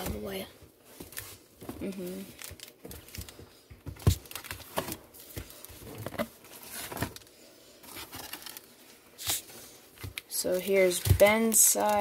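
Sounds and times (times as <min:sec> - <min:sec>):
card packs rustling: 0:00.0 - 0:12.0.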